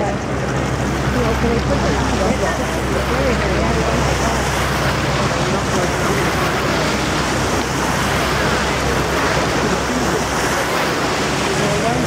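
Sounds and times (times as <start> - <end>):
churning wash: 0.0 - 12.0
outboard engines: 0.0 - 12.0.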